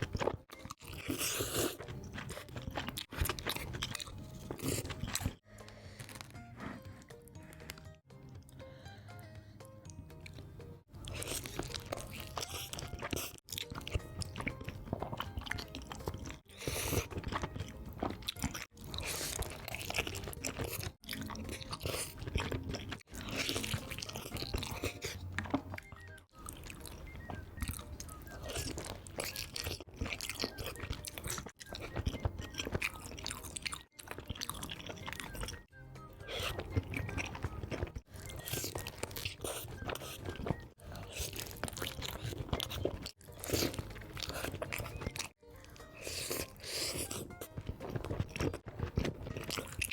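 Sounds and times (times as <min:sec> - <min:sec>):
crunchy chewing of food: 0:00.0 - 0:07.8, 0:10.2 - 0:49.9
background music: 0:00.1 - 0:49.9.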